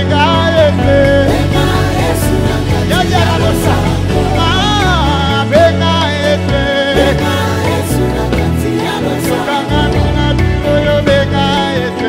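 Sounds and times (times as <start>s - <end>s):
live gospel band playing: 0.0s - 12.0s.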